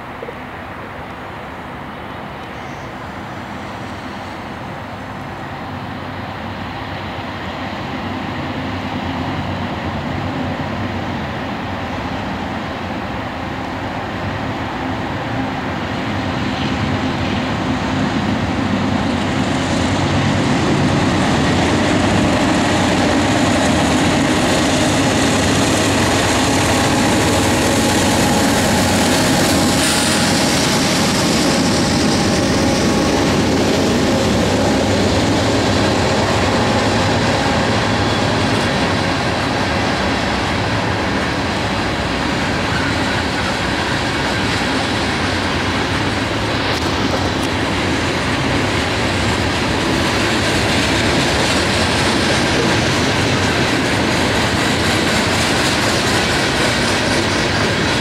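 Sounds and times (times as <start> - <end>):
freight train passing: 0.0 - 58.0
train wheels on rails: 0.0 - 58.0.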